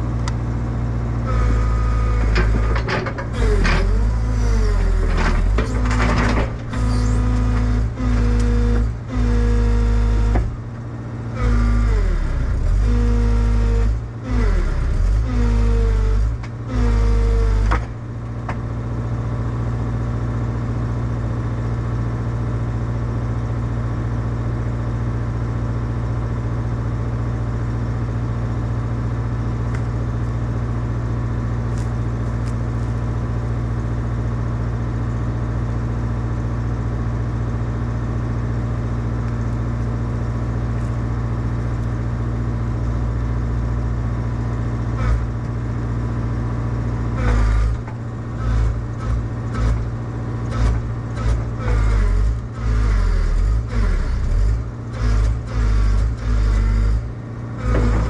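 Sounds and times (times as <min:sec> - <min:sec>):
excavator diesel engine working hard: 0:00.0 - 0:58.0.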